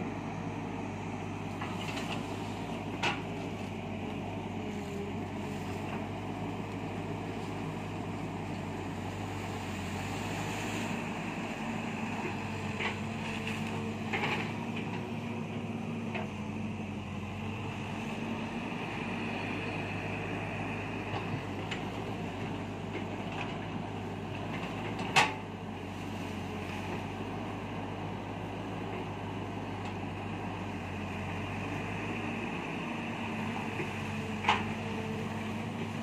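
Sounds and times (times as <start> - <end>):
excavator engine running: 0.0 - 36.0.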